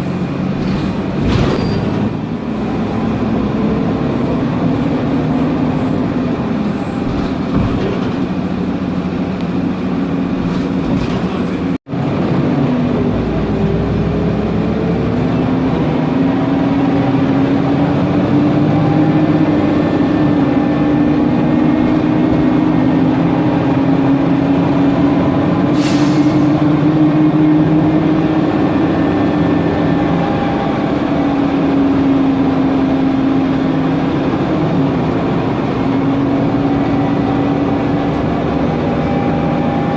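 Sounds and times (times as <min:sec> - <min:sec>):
bus engine whine: 0:00.0 - 0:39.9
road and fan noise: 0:00.0 - 0:39.9.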